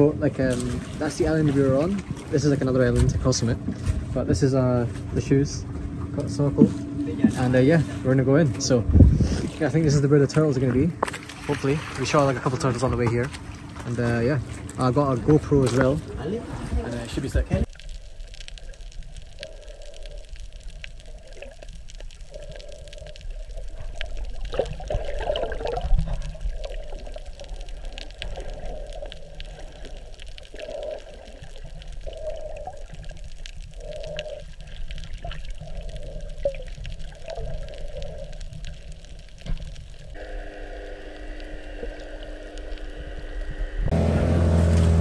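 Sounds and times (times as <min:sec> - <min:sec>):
muffled underwater water noise: 0:00.0 - 0:45.0
steady droning hum: 0:00.0 - 0:45.0.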